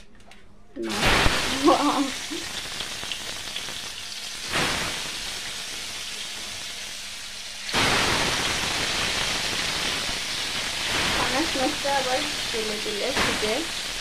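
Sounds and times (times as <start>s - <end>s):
fish sizzling in hot oil: 0.8s - 14.0s.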